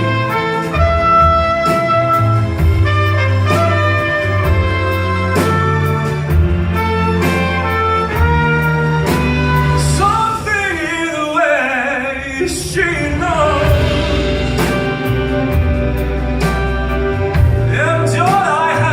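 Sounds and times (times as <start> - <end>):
live band music with singing: 0.0 - 18.9.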